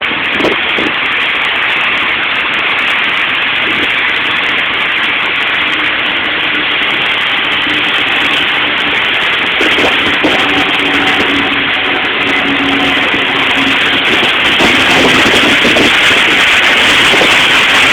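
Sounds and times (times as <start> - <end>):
strong wind and rain: 0.0 - 17.9.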